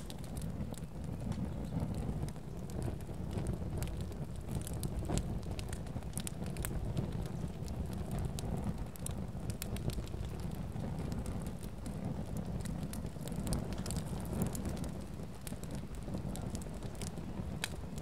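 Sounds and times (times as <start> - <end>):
fire crackling and popping: 0.0 - 18.0
fire low rumble: 0.0 - 18.0.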